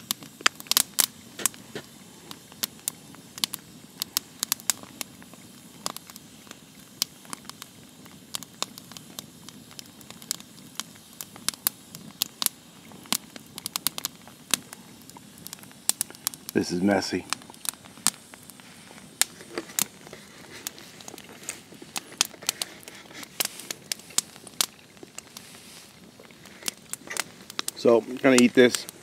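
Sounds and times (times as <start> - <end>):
campfire crackling and popping: 0.0 - 29.0
faint low hiss: 0.0 - 29.0.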